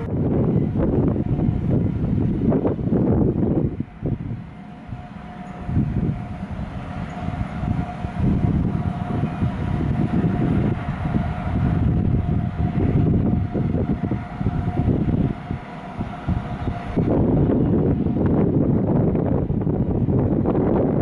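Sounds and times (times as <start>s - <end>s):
distant train running: 0.0s - 21.0s
wind buffeting microphone: 0.0s - 21.0s.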